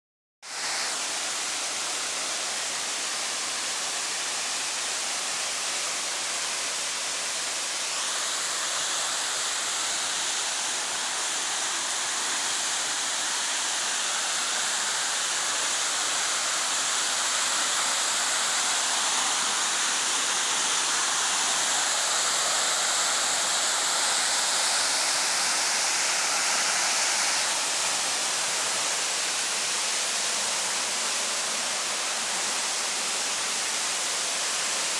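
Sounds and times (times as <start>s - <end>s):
waterfall rushing: 0.5s - 34.9s.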